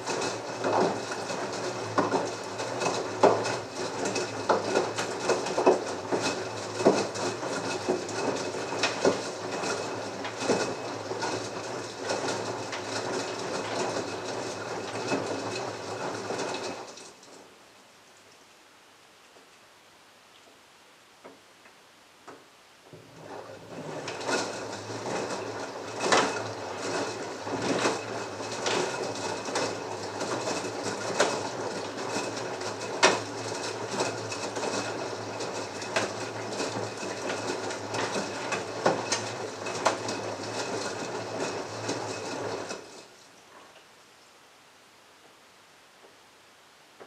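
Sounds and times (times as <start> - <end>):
washing machine motor hum: 0.0 - 17.3, 22.8 - 43.3.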